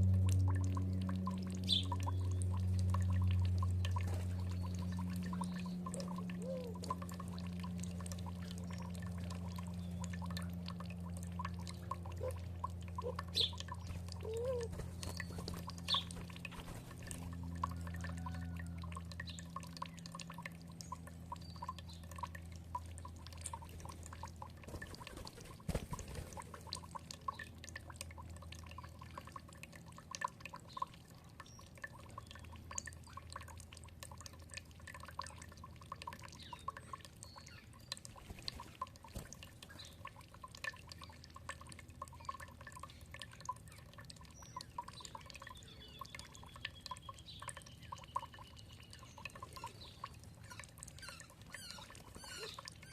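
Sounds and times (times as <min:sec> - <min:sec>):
low steady hum: 0:00.0 - 0:52.9
water dripping and trickling: 0:00.0 - 0:52.9.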